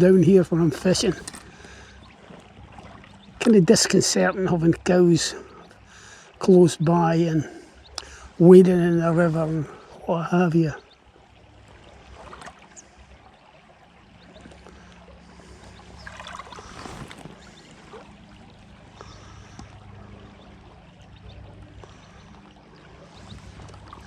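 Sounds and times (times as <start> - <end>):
stream trickling over stones: 0.0 - 24.0
water splashing: 0.0 - 24.0.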